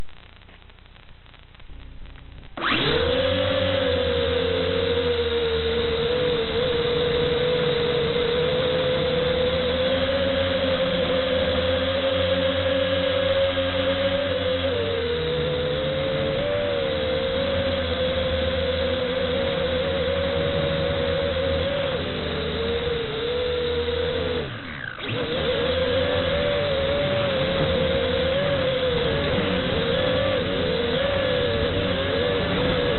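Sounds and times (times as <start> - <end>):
drone propellers whining: 1.7 - 32.9.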